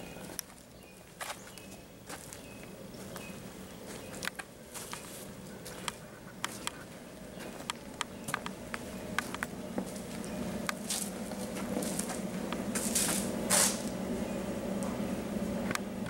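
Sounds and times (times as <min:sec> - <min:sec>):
low hum: 0:00.0 - 0:16.0
high-heeled footsteps on dirt: 0:00.2 - 0:13.9.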